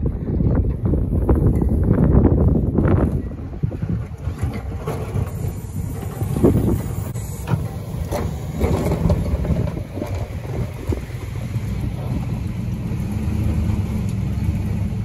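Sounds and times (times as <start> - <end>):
truck engine drone: 0.0 - 15.0
plow scraping through snow: 1.2 - 15.0.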